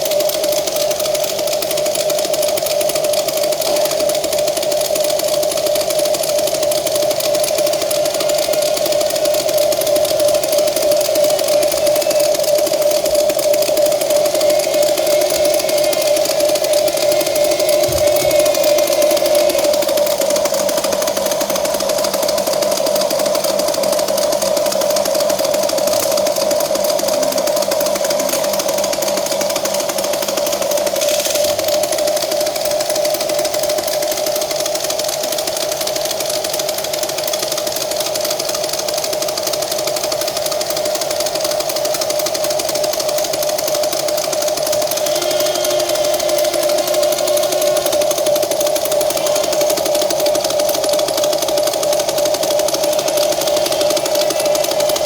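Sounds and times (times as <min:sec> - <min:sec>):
small electric motors whining: 0:00.0 - 0:55.0.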